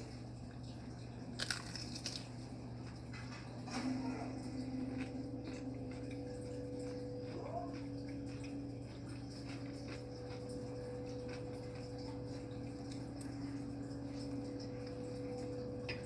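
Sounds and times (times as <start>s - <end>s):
person chewing food: 0.0s - 16.0s
steady electrical hum: 0.0s - 16.0s.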